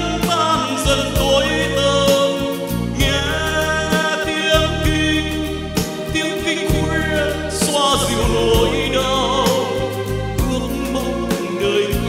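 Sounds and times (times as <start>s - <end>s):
instrumental accompaniment: 0.0s - 12.0s
man singing into a microphone: 0.0s - 12.0s.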